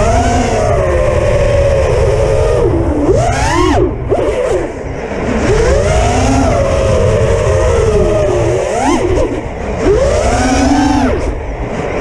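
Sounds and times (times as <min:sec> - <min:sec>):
drone motors whining: 0:00.0 - 0:12.0
wind rumbling on microphone: 0:00.0 - 0:12.0.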